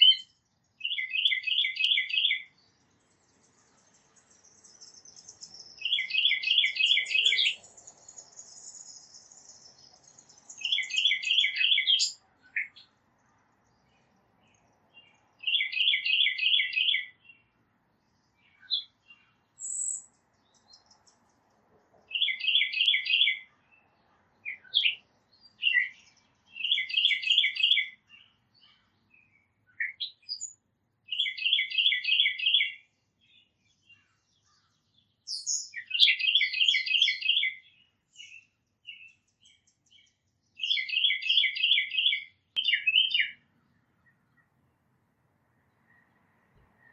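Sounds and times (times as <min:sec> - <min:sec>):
small birds chipping: 0:00.0 - 0:46.9
songbird singing: 0:00.0 - 0:46.9.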